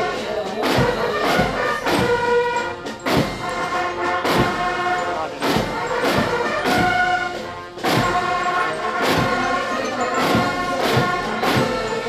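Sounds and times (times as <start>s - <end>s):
bass drum beats: 0.0s - 12.0s
brass band playing a march: 0.0s - 12.0s.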